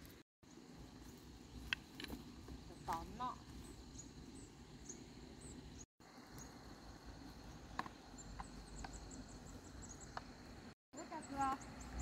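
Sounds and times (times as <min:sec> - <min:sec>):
high insect tone: 0:00.4 - 0:12.0.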